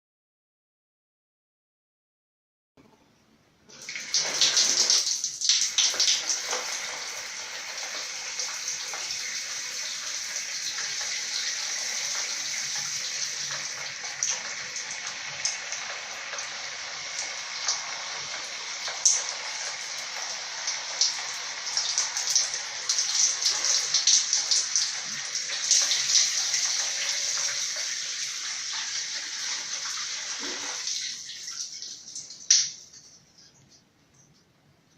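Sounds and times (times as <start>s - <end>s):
shower water spraying: 3.8s - 33.1s.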